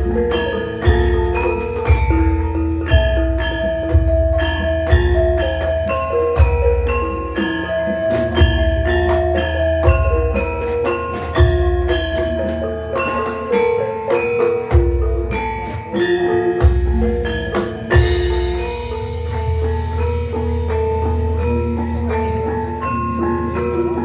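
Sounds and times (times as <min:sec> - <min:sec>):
metallophones ringing a melody: 0:00.0 - 0:24.0.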